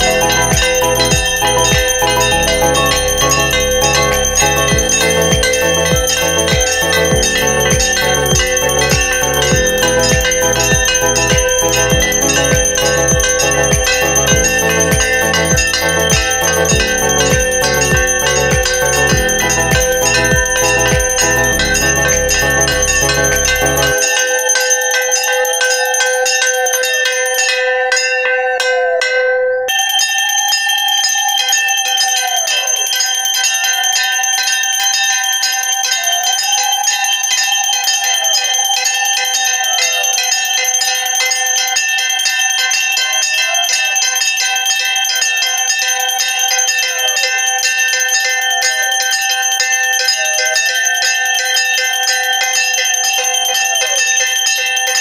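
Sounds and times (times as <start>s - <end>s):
hand bell ringing: 0.0s - 55.0s.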